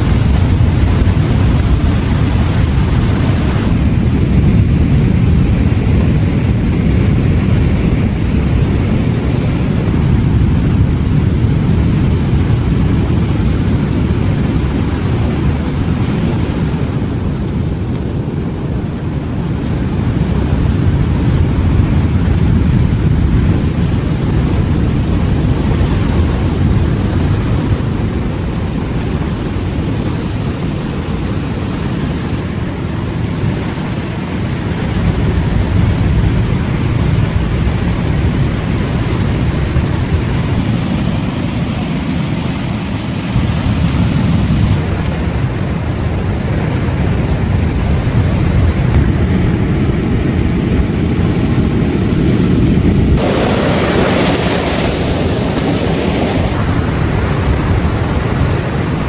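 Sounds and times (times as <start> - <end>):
ocean surf washing onto beach: 0.0 - 59.0
wind rumbling on microphone: 0.0 - 59.0.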